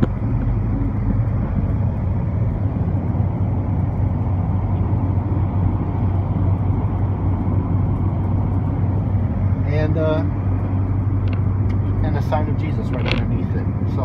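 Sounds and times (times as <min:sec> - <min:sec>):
car road noise drone: 0:00.0 - 0:14.0.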